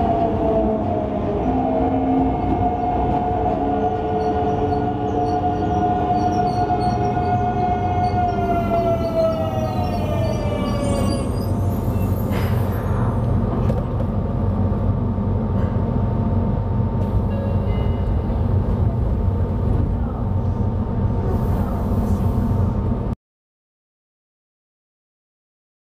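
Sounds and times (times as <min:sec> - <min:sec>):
train rumbling: 0:00.0 - 0:23.2.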